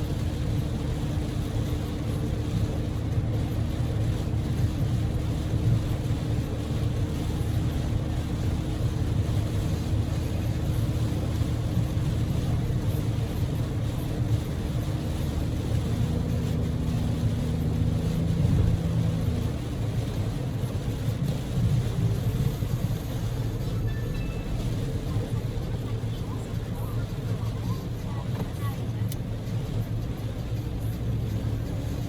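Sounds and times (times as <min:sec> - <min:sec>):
car engine and tyres droning: 0:00.0 - 0:32.0
heavy rain and spray: 0:00.0 - 0:32.0.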